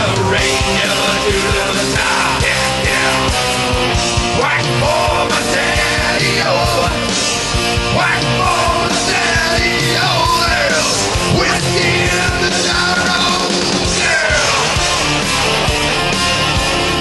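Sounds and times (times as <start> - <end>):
person singing and yelling: 0.0 - 3.6, 4.2 - 7.1, 7.9 - 15.3
rock band playing: 0.0 - 17.0
steady drum beat: 0.0 - 17.0.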